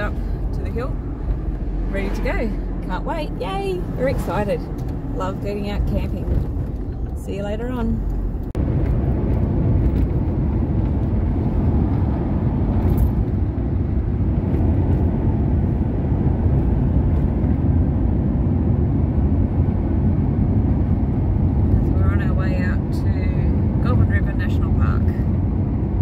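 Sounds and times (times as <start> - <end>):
car engine and tyre noise: 0.0 - 26.0.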